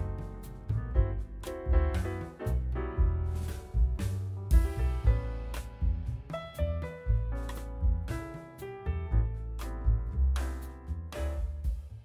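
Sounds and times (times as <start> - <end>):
background music: 0.0 - 12.0
drum hits: 0.0 - 12.0.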